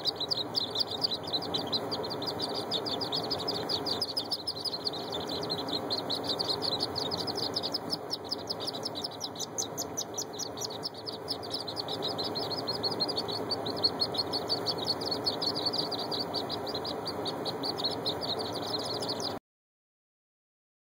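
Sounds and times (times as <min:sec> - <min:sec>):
ducklings peeping: 0:00.0 - 0:19.4
low background noise: 0:00.0 - 0:19.4.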